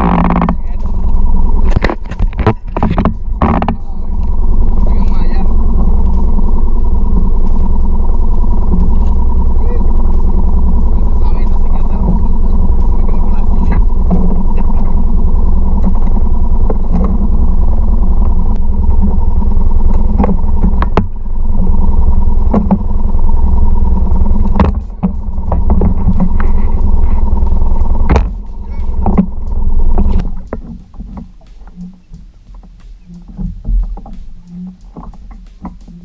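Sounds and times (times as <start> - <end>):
outboard motor droning: 0.0 - 36.0.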